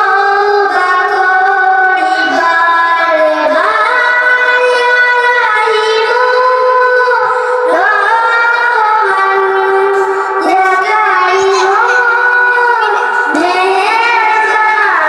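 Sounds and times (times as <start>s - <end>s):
girl singing devotional song: 0.0s - 15.0s.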